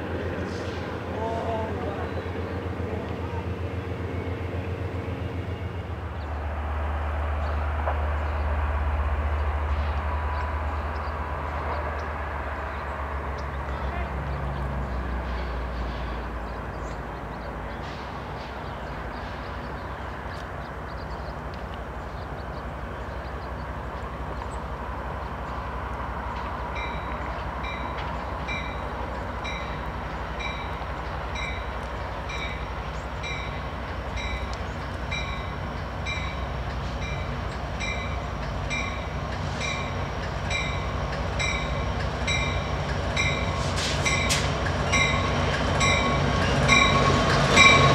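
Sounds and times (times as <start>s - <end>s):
diesel train rumble: 0.0s - 47.9s.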